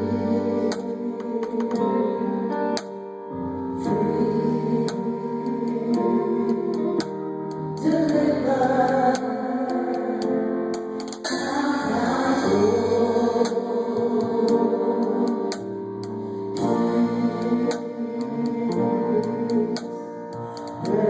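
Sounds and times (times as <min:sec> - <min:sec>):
choir singing over held chords: 0:00.0 - 0:02.9, 0:03.6 - 0:21.0.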